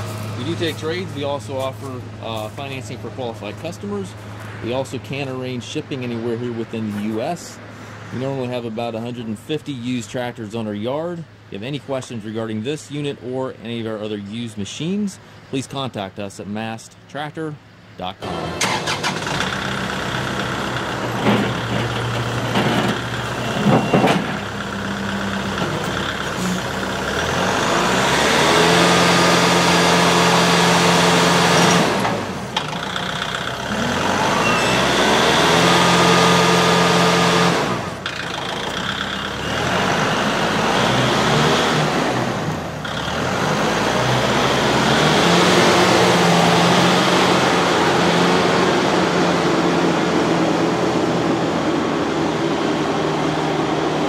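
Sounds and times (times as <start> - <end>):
diesel engine revving: 0.0 - 10.5, 17.7 - 54.0.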